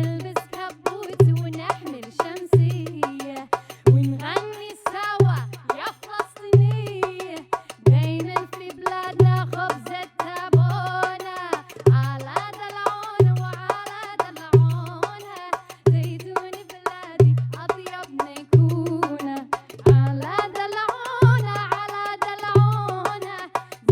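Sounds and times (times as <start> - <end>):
fast ticking percussion: 0.0 - 23.9.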